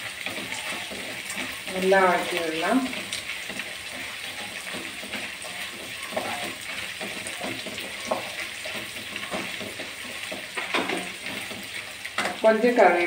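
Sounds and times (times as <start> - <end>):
wooden spatula scraping pan: 0.0 - 12.5
food sizzling in hot oil: 0.0 - 13.0.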